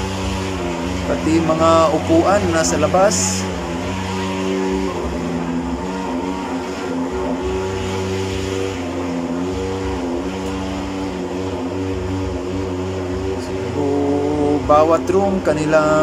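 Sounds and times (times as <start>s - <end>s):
fogging machine buzzing drone: 0.0s - 16.0s.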